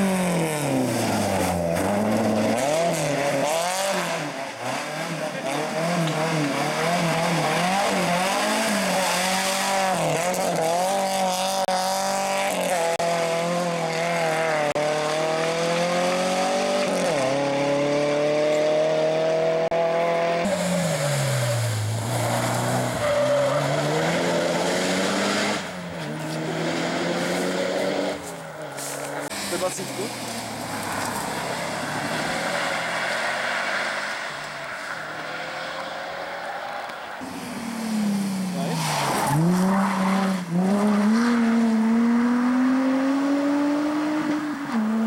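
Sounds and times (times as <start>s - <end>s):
rally car engines revving: 0.0s - 45.0s.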